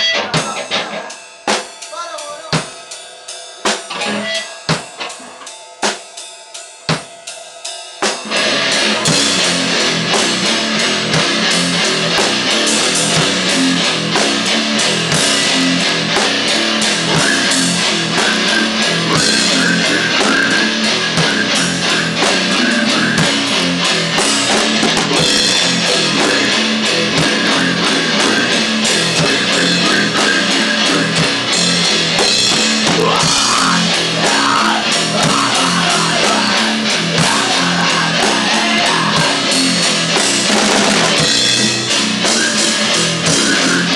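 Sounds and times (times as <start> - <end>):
live grindcore band: 0.0 - 43.9
drum hits: 8.0 - 43.9.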